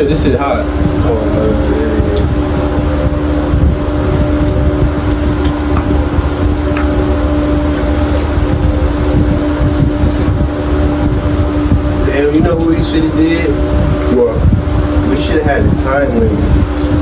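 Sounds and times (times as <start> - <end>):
machine hum and rumble: 0.0 - 17.0.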